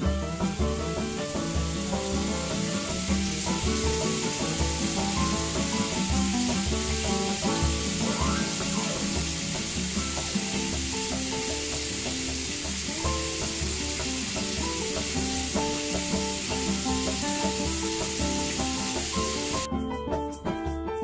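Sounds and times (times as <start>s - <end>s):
steady hiss: 0.0s - 19.7s.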